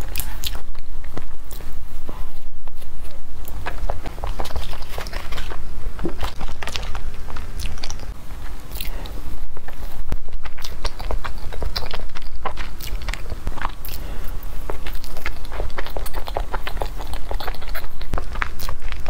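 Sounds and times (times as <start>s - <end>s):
person chewing soft cake: 0.0s - 19.0s.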